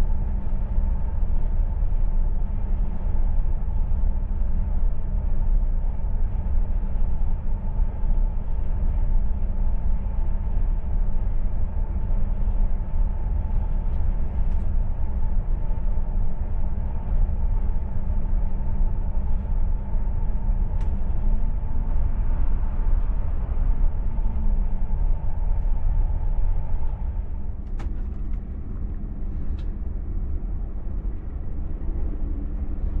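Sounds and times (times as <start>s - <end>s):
faint hum: 0.0s - 33.0s
train rumble inside coach: 0.0s - 33.0s.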